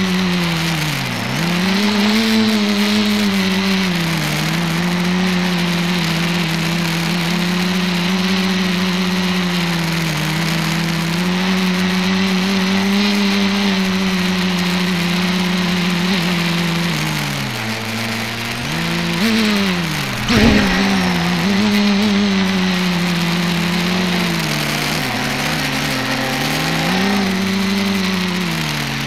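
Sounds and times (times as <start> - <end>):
drone motors and propellers droning: 0.0 - 29.0.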